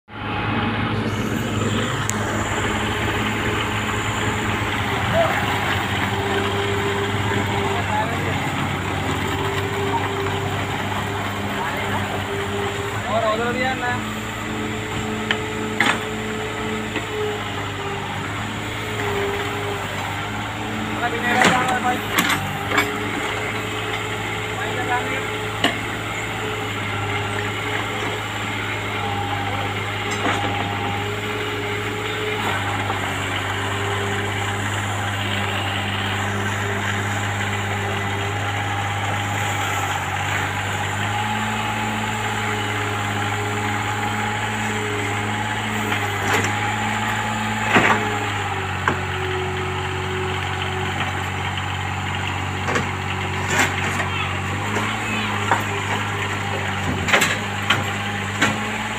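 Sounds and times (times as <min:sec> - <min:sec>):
excavator diesel engine running: 0:00.1 - 0:58.9.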